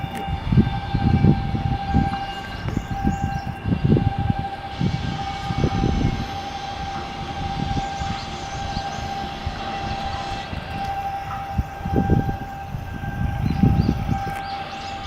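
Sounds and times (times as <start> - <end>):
high-pitched machine whine: 0.0 - 15.0
low rumbling: 0.0 - 15.0.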